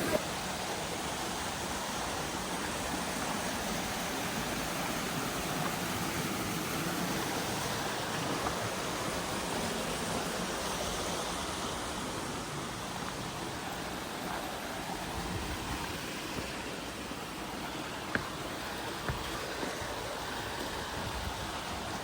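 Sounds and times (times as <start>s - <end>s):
rush of flowing water: 0.0s - 22.0s.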